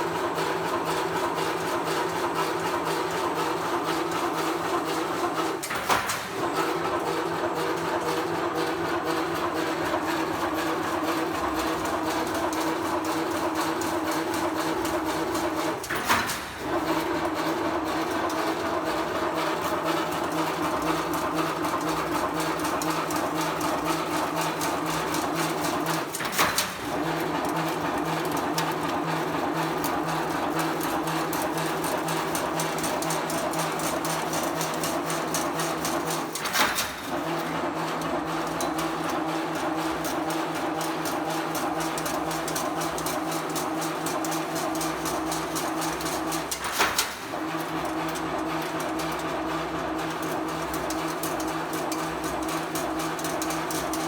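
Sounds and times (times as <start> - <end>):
mesh weaving machine humming: 6.3 - 54.0.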